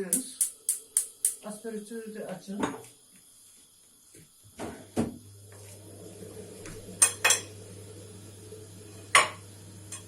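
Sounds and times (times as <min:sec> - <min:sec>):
range hood fan humming: 0:00.0 - 0:10.0.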